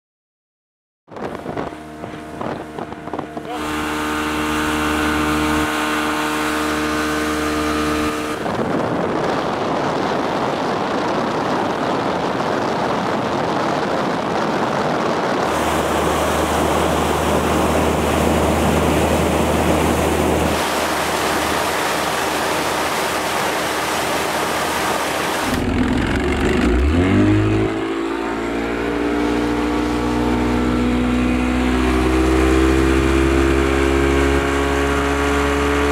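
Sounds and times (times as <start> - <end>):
motorboat engine: 1.1 - 35.9
wind and water rushing: 1.1 - 35.9.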